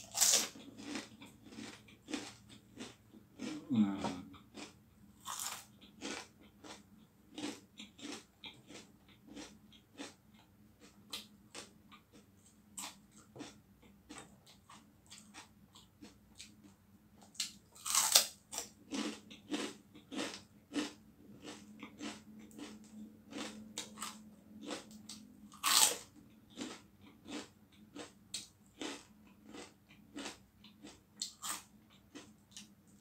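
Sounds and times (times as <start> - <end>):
crunching and chewing crispy food: 0.0 - 33.0.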